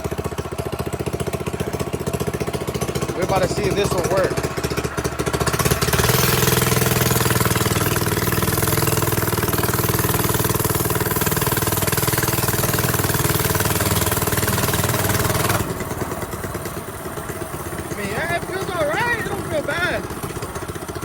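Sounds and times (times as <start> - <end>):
minibike engine revving: 0.0 - 21.0.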